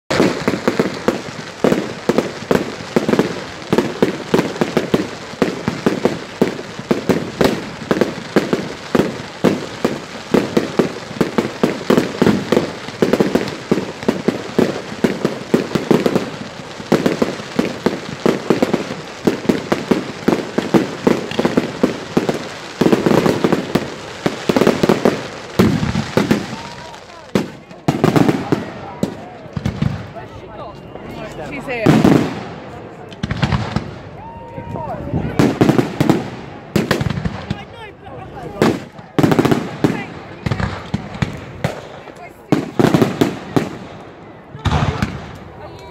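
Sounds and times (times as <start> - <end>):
fireworks bangs and crackles: 0.1 - 45.9.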